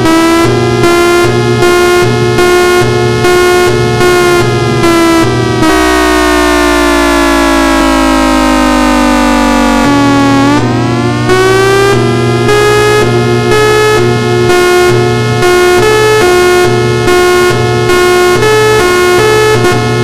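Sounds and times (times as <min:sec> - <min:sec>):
outdoor warning siren pulsing: 0:00.0 - 0:20.0.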